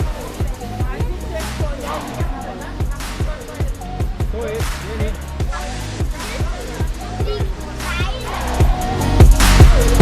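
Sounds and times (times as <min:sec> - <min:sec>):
thumping drum beat: 0:00.0 - 0:10.0.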